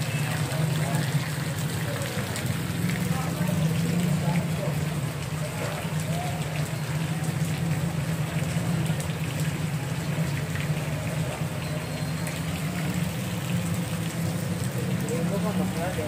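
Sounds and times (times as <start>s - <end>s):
rain pattering on street: 0.0s - 16.0s.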